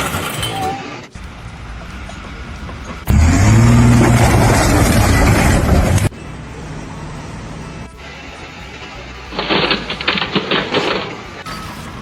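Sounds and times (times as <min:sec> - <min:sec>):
loud engine running: 0:01.2 - 0:11.4.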